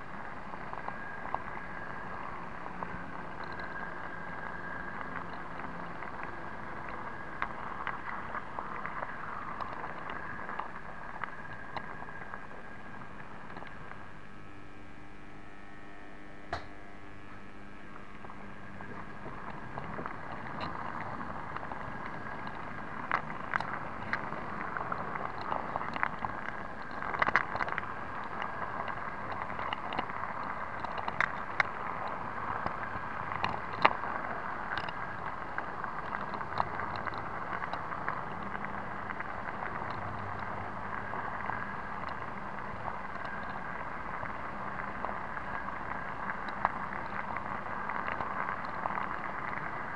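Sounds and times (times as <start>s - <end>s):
faint hum: 0.0s - 49.9s.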